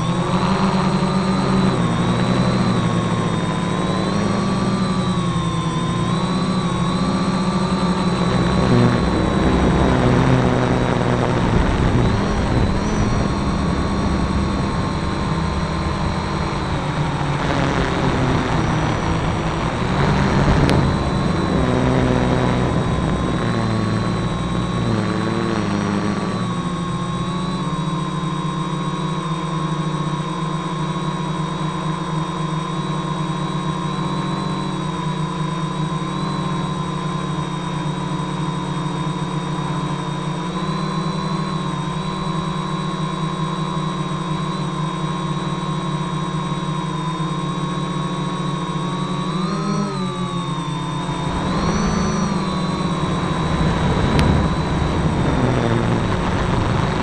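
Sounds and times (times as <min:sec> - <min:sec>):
low drone: 0:00.0 - 0:57.0
quadcopter motors whining: 0:00.0 - 0:57.0.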